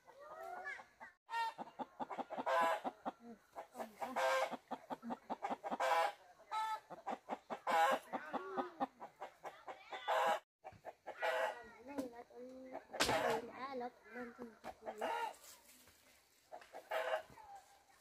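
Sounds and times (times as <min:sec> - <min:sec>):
chicken clucking: 0:00.0 - 0:13.6, 0:14.2 - 0:15.6, 0:16.4 - 0:18.0.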